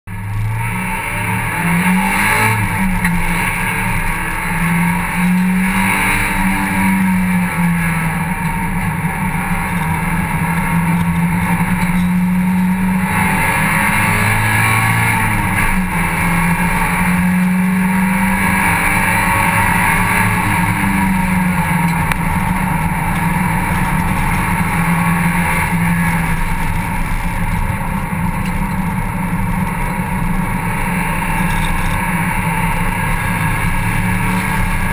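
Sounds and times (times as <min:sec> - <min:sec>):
race car engine running hard: 0:00.1 - 0:34.9
wind and road noise: 0:00.1 - 0:34.9.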